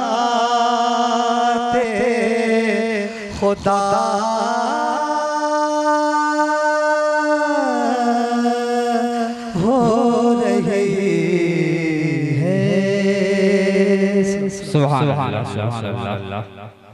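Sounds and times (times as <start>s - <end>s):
man singing into a microphone: 0.0s - 16.9s.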